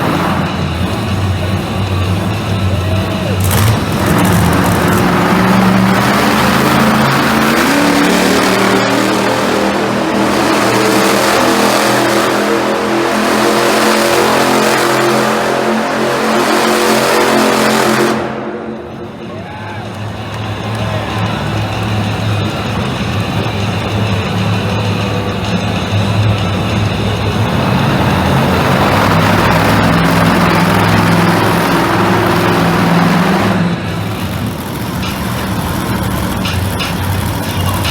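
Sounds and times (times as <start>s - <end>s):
monster truck engine running: 0.0s - 37.9s.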